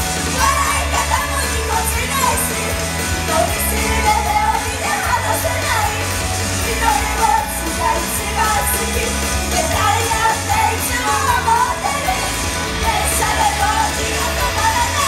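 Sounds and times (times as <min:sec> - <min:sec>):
loud pop-rock band: 0:00.0 - 0:15.0
person singing: 0:00.0 - 0:15.0.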